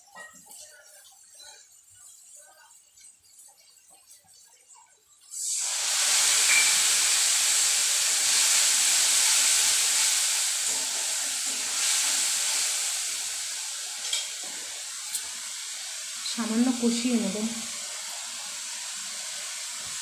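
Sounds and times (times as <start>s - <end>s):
loud sizzling in hot oil: 0.0s - 20.0s.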